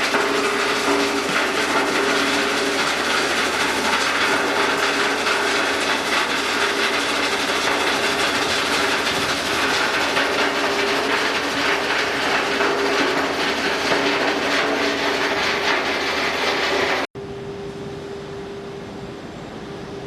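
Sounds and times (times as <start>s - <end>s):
machinery clattering: 0.0s - 17.1s.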